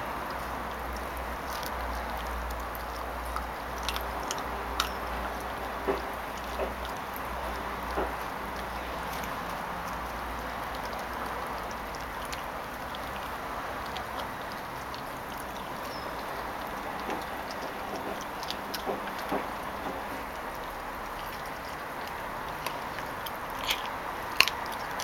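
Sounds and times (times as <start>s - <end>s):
puppy teeth crunching on bone: 0.0s - 25.0s.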